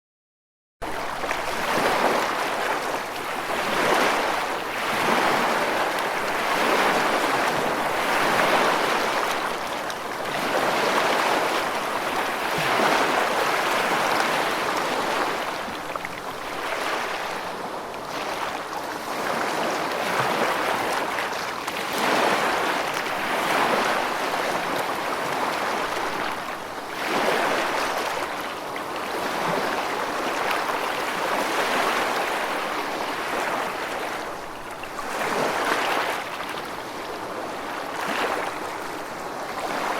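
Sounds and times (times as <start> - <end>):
ocean waves breaking: 0.8 - 39.9.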